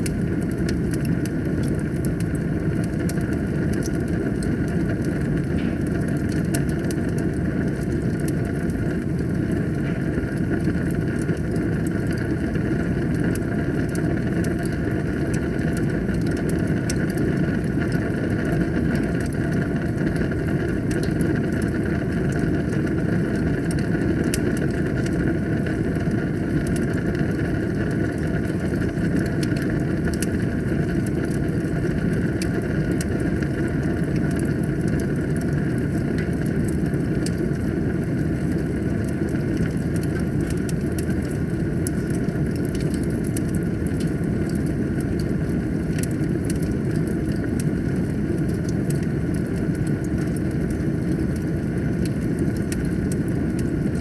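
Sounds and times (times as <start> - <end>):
fire crackling: 0.0 - 54.0
fire rumbling: 0.0 - 54.0.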